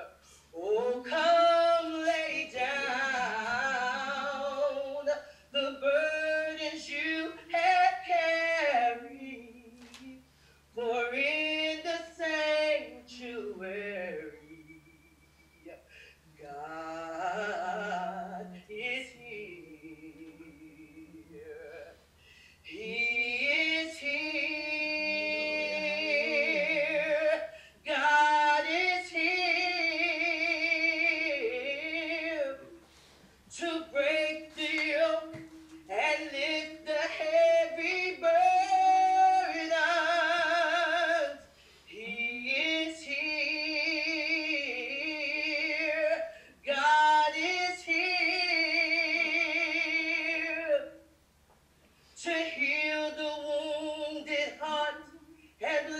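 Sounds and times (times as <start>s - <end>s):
woman singing with vibrato: 0.0s - 51.2s, 52.2s - 55.9s.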